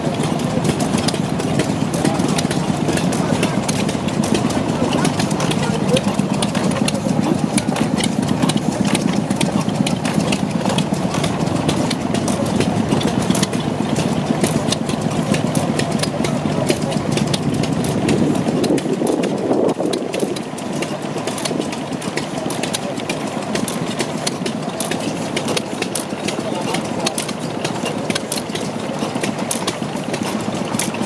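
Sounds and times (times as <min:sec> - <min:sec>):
gas engine running: 0:00.0 - 0:31.0
clatter of sharp ticks: 0:00.2 - 0:31.0.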